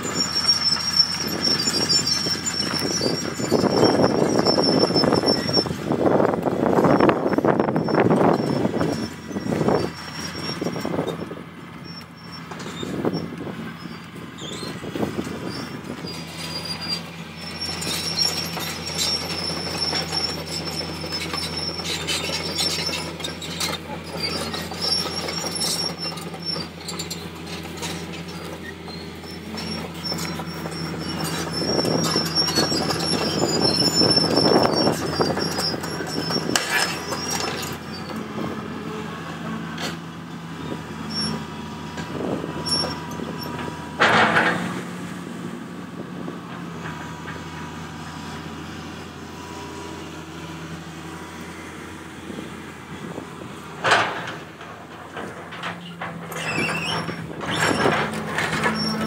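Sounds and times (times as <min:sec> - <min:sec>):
steel tracks squealing and clanking: 0:00.0 - 0:45.0, 0:53.0 - 0:59.0
diesel engine running: 0:00.0 - 0:59.0.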